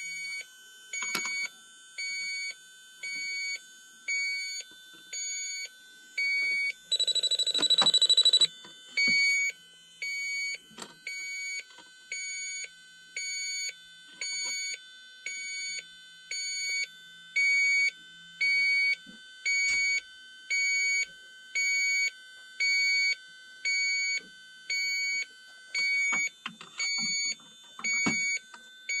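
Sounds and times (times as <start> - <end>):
leak detector beeping: 0.0 - 29.0
rapidly pulsing alarm tone: 0.0 - 29.0.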